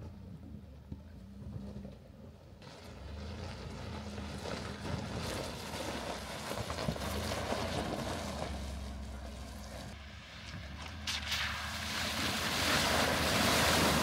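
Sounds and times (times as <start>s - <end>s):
low engine hum: 0.0s - 14.0s
tyres crunching on gravel: 2.6s - 14.0s.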